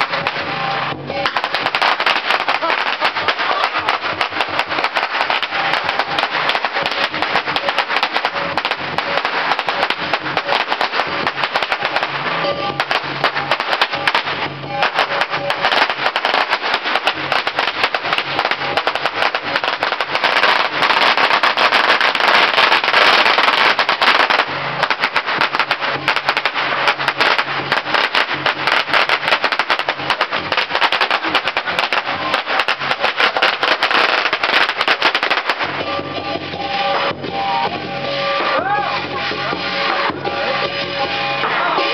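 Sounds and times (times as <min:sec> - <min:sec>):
firecrackers crackling: 0:00.0 - 0:41.9.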